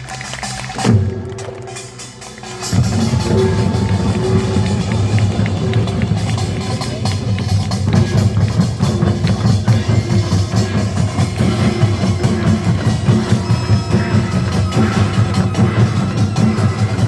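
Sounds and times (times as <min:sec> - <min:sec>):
percussion band playing fast beat: 0:00.0 - 0:17.0.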